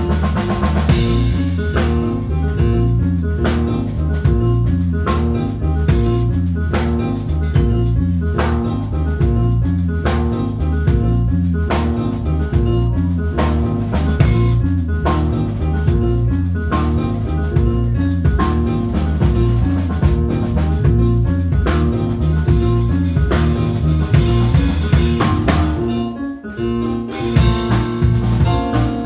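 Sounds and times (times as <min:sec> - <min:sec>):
jazz fusion band playing: 0:00.0 - 0:29.0.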